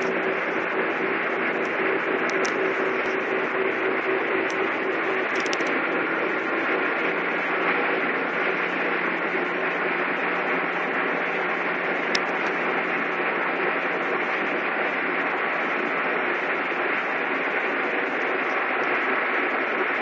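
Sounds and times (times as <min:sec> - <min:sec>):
low even hum: 0:00.0 - 0:20.0.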